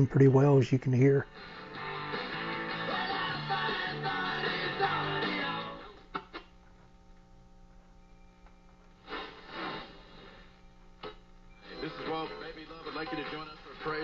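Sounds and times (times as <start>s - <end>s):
faint steady hum: 0.0s - 14.0s
radio music with guitar and singing: 0.0s - 14.0s.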